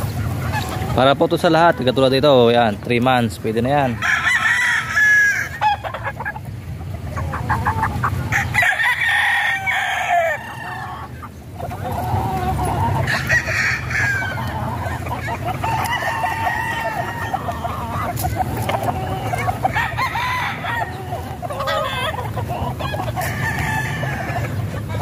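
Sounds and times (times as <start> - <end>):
hens clucking: 0.0 - 25.0
roosters crowing: 0.0 - 25.0.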